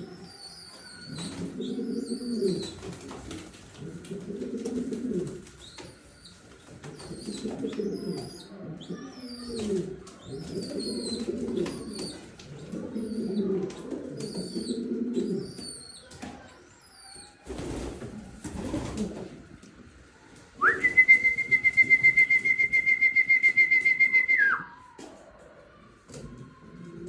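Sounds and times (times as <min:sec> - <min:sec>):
pigeon cooing: 0:00.0 - 0:06.2, 0:06.8 - 0:19.4, 0:20.6 - 0:27.0.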